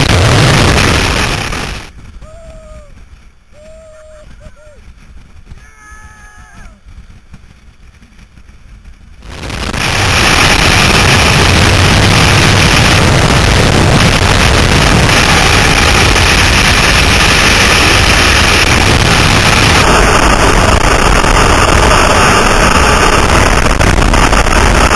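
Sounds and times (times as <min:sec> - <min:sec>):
freefall wind rushing: 0:00.0 - 0:24.9.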